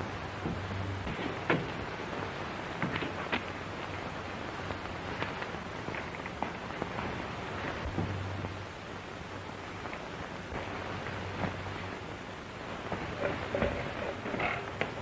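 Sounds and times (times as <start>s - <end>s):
film soundtrack hiss and crackle: 0.0s - 15.0s
low hum: 0.0s - 15.0s.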